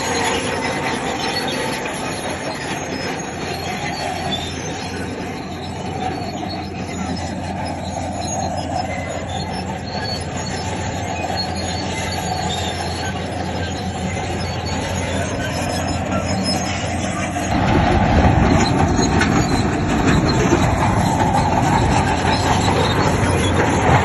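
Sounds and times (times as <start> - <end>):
diesel engine running: 0.0 - 24.0
steel tracks grinding: 0.0 - 24.0.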